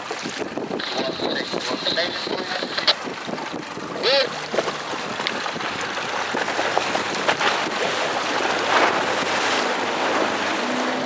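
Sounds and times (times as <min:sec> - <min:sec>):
choppy sea water splashing: 0:00.0 - 0:11.0
wind buffeting microphone: 0:00.0 - 0:11.0.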